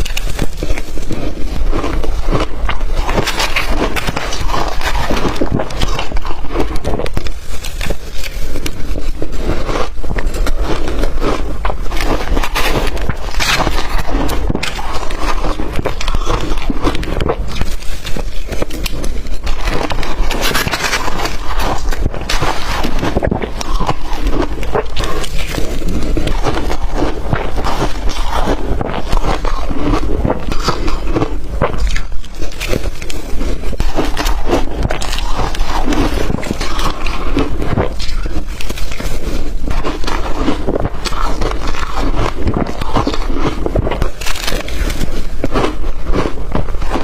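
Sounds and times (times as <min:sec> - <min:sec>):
crushed ice chewed: 0:00.0 - 0:47.0.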